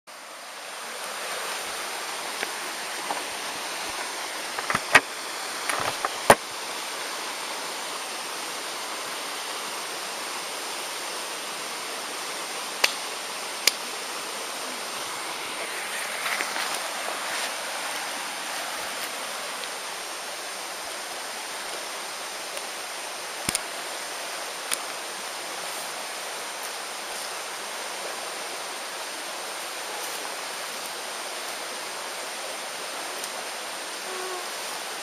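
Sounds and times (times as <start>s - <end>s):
creek rushing: 0.1s - 35.0s.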